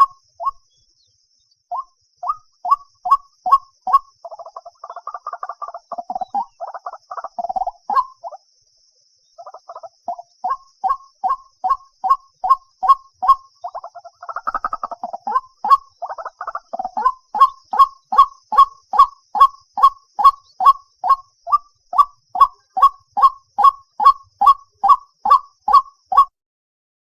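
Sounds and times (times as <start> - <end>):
waterhen calling: 0.0 - 0.6, 1.7 - 8.4, 9.4 - 26.3.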